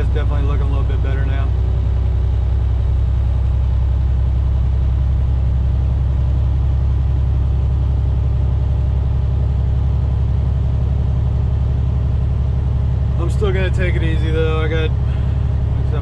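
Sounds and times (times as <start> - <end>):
diesel truck engine droning: 0.0 - 16.0
road rumble: 0.0 - 16.0.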